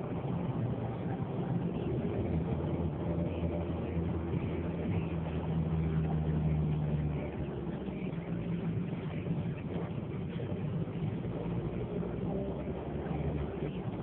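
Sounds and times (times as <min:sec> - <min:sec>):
car engine humming: 0:00.0 - 0:14.0
tyre and road noise: 0:00.0 - 0:14.0.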